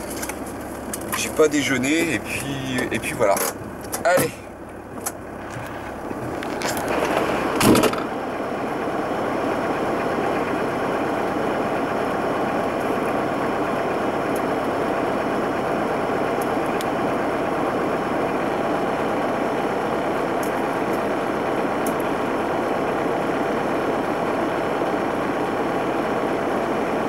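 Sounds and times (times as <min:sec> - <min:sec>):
van engine running: 0:00.0 - 0:27.0.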